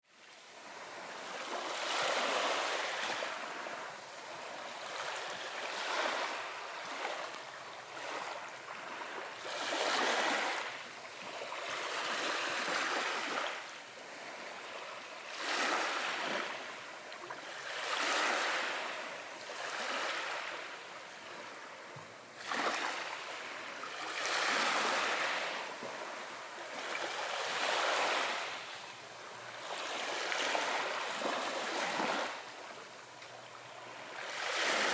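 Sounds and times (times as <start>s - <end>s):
waves washing onto beach: 0.0s - 34.9s.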